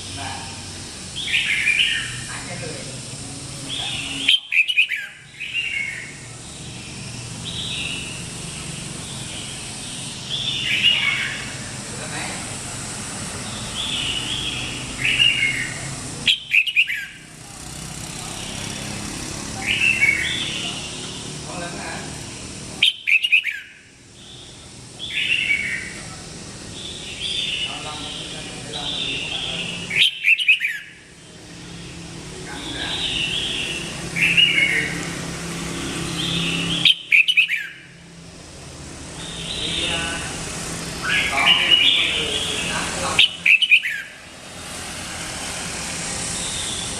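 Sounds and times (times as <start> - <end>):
bird singing warbled phrases: 0.0 - 44.9, 46.2 - 46.9
steady low hum: 0.0 - 46.9.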